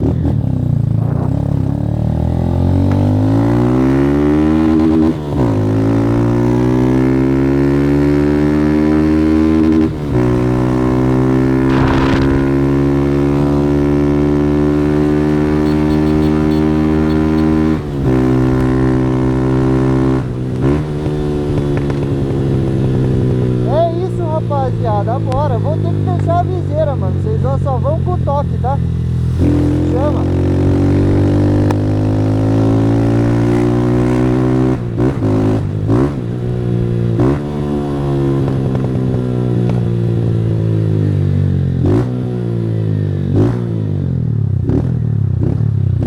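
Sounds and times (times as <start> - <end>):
motorcycle accelerating through gears: 0.0 - 46.0.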